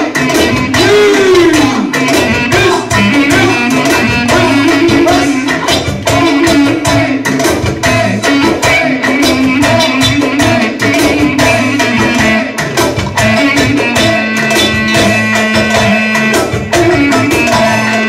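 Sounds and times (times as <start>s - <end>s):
clarinet melody: 0.0s - 7.1s, 8.2s - 18.0s
live band playing dance music: 0.0s - 18.0s.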